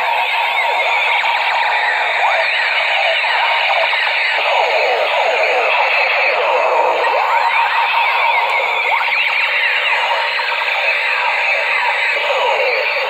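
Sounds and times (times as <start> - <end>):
toy gun electronic sound effects: 0.0 - 13.0.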